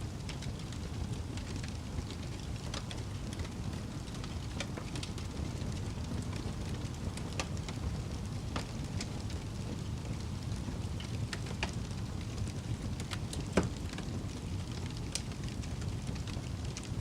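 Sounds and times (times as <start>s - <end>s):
burning wood crackling and popping: 0.0s - 17.0s
campfire low rumble: 0.0s - 17.0s.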